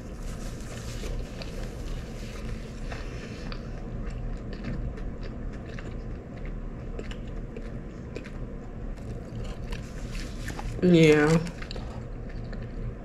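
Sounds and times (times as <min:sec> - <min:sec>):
chewing crispy fried chicken: 0:00.0 - 0:13.0
steady low hum: 0:00.0 - 0:13.0.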